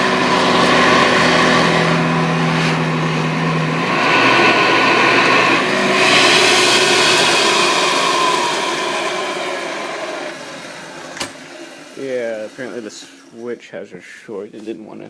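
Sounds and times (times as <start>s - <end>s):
vacuum cleaner running on carpet: 0.0s - 13.3s.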